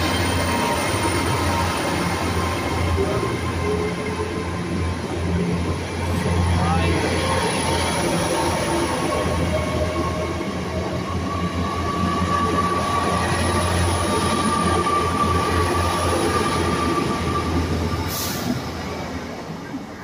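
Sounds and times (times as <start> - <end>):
train passing on track: 0.0 - 20.0.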